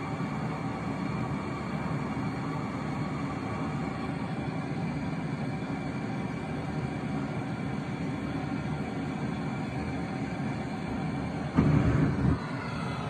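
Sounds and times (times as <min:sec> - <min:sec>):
gas torch flame roaring: 0:00.0 - 0:13.0.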